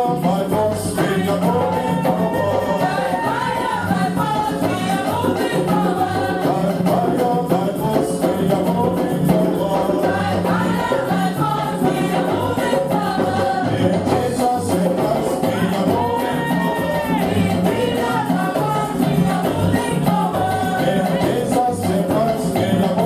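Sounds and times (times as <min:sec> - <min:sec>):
group singing gospel music: 0:00.0 - 0:23.0
hand percussion: 0:00.0 - 0:23.0.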